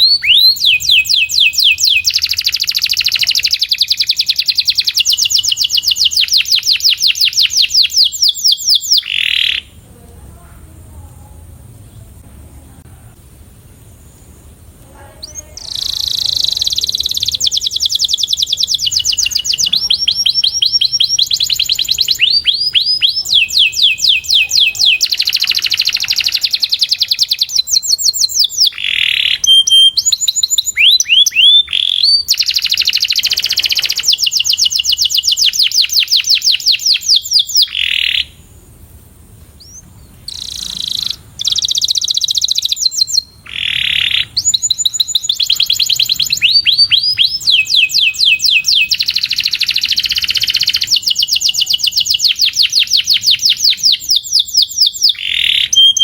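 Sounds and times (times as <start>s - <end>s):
canary singing trills: 0.0s - 10.0s, 13.6s - 38.5s, 39.6s - 56.0s.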